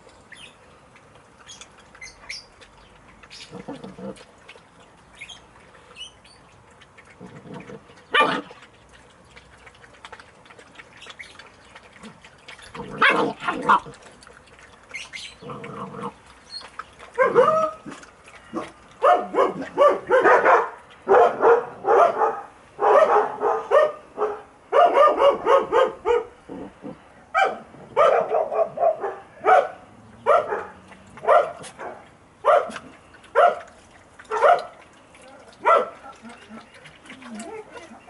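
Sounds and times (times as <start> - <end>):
puppies yipping and barking: 5.0 - 8.8, 9.4 - 38.0.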